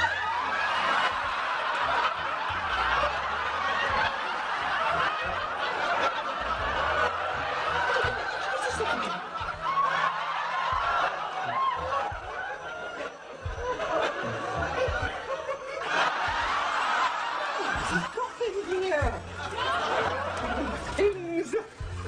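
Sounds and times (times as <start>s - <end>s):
audience laughing: 0.0s - 22.0s.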